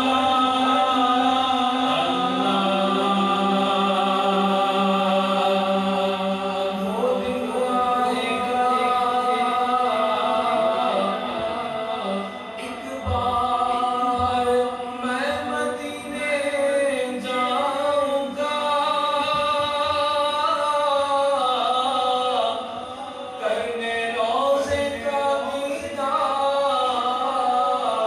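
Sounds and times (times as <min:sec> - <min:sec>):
hummed vocal drone: 0:00.0 - 0:28.0
man singing with echo: 0:00.0 - 0:28.0.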